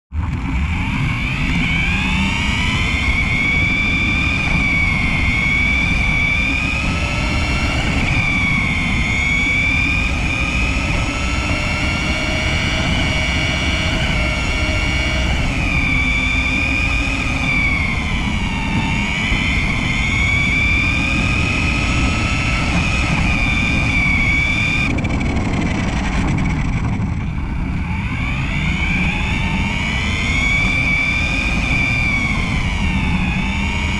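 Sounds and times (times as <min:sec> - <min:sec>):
tyres rumbling and rattling: 0:00.2 - 0:33.9
toy car motor whining: 0:00.7 - 0:26.6, 0:27.4 - 0:33.9.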